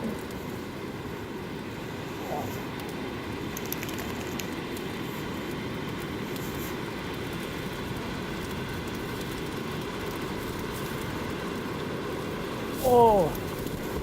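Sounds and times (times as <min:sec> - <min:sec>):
faint crackles: 0:00.0 - 0:14.0.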